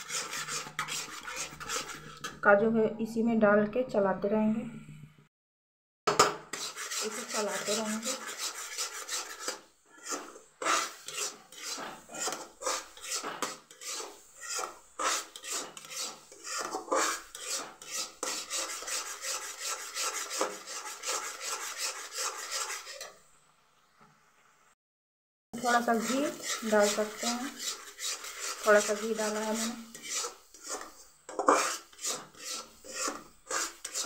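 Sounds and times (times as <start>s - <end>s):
utensil scraping a pan: 0.0s - 2.4s, 6.1s - 23.2s, 25.6s - 34.0s.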